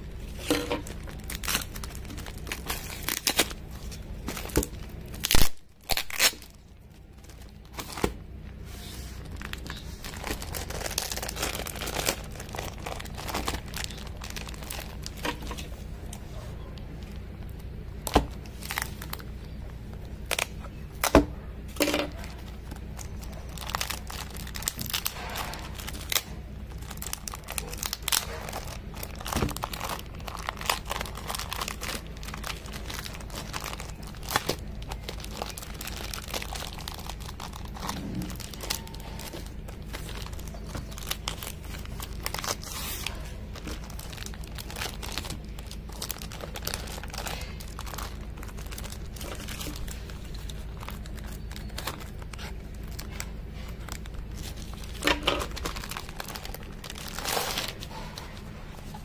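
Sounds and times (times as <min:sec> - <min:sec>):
plastic wrapping crinkling: 0:00.0 - 0:59.0
steady low hum: 0:00.0 - 0:59.0.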